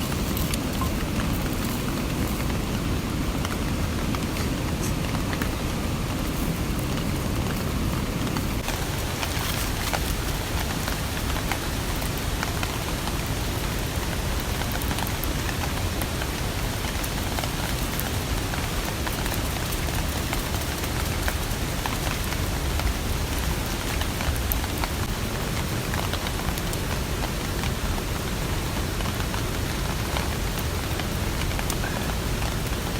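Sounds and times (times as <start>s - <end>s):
rain drops ticking: 0.0s - 32.9s
rain hiss: 0.0s - 32.9s.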